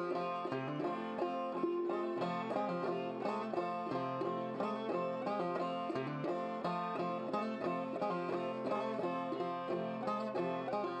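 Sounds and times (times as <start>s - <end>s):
banjo tune: 0.0s - 11.0s.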